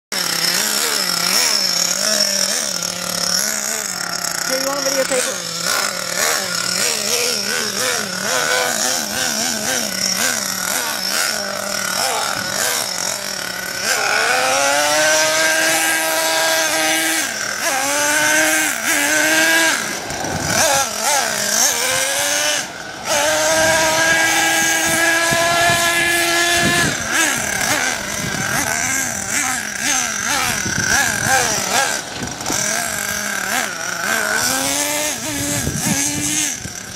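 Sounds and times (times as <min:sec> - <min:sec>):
toy truck motor revving: 0:00.1 - 0:36.9.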